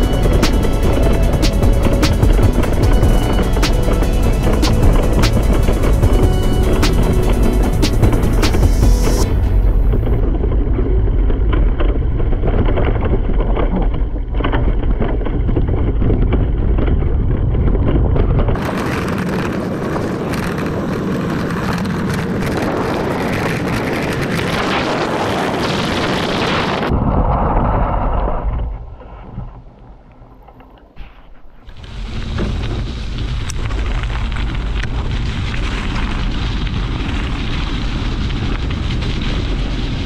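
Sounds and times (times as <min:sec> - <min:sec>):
bike tyres rattling on gravel trail: 0:00.0 - 0:40.0
wind buffeting microphone: 0:00.0 - 0:40.0.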